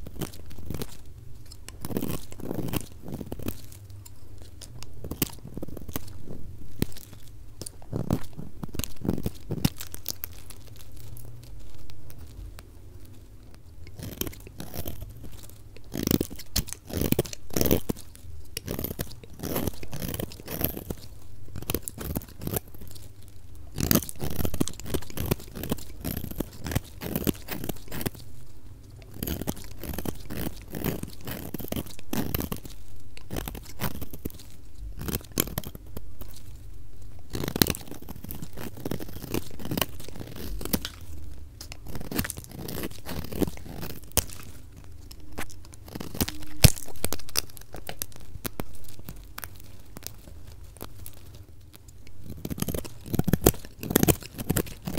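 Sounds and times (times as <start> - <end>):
knife cutting soap: 0.0 - 12.1, 13.8 - 36.6, 37.2 - 50.2.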